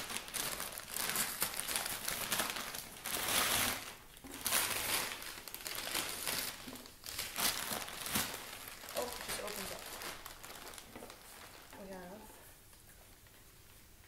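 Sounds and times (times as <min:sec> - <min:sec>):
paper liner crinkling and rustling: 0:00.0 - 0:12.2.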